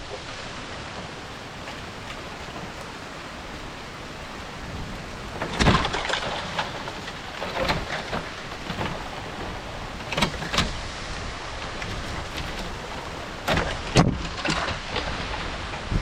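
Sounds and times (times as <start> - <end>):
rain falling: 0.0 - 16.0
wind gusting against microphone: 0.0 - 16.0.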